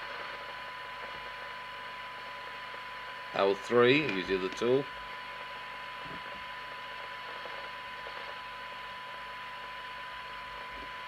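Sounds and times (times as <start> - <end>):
radio receiver hiss: 0.0 - 11.0.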